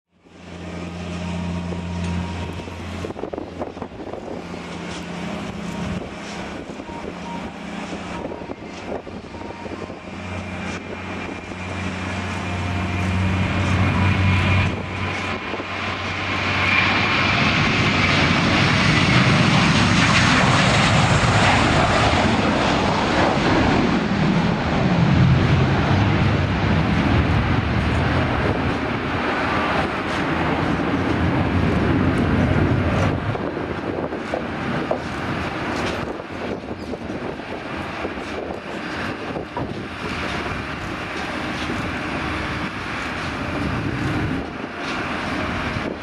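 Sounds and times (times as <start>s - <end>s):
jet engines at takeoff power: 0.1s - 46.0s.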